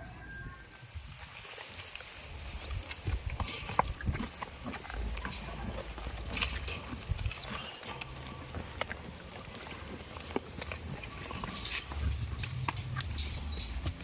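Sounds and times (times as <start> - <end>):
goats snuffling: 0.8 - 14.0.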